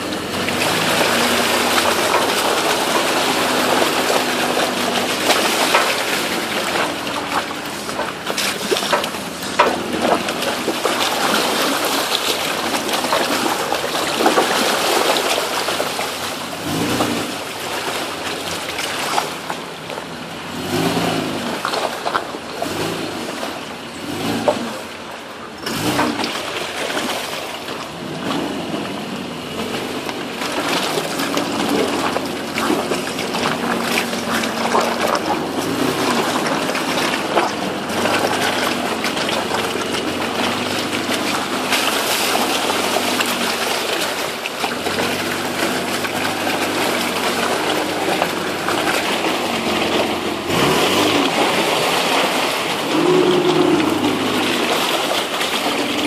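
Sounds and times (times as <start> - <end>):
truck engine running at low revs: 0.0 - 56.0
tyres squelching through mud: 0.0 - 56.0.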